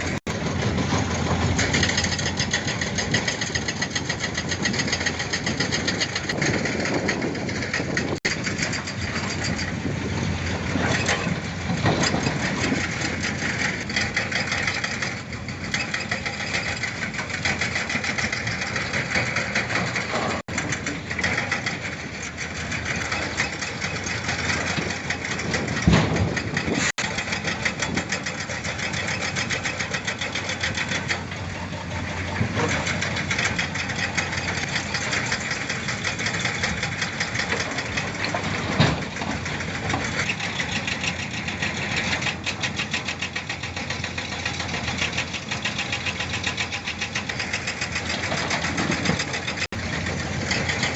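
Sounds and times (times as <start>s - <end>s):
heavy diesel engines knocking: 0.0s - 50.9s.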